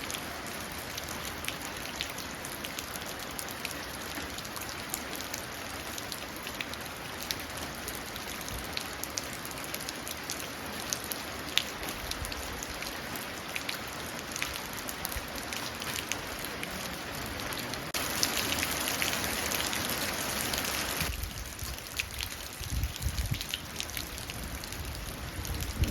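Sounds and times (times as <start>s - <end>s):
rain falling into a puddle: 0.0s - 25.9s.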